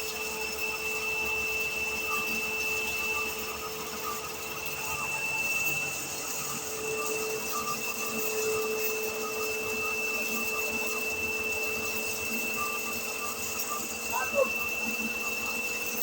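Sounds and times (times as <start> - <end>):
electric grain mill whining: 0.0 - 16.0.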